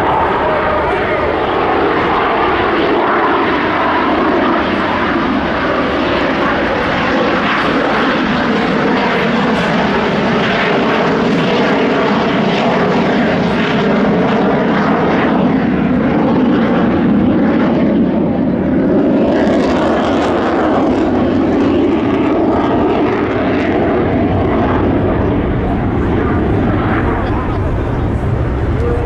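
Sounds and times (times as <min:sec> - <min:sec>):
fighter jet engine roar: 0:00.0 - 0:29.0.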